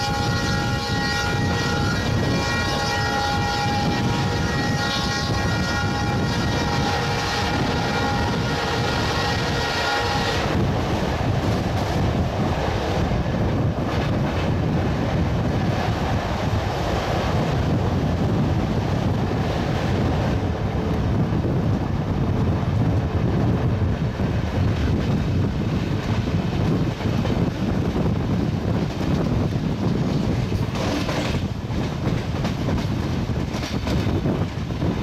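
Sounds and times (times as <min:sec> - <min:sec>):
passing train rumble: 0:00.0 - 0:35.0
wind buffeting microphone: 0:00.0 - 0:35.0.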